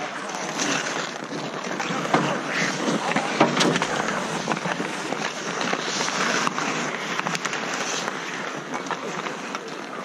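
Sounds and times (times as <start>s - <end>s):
skates scraping on ice: 0.0s - 10.0s
sticks and puck clacking: 0.0s - 10.0s.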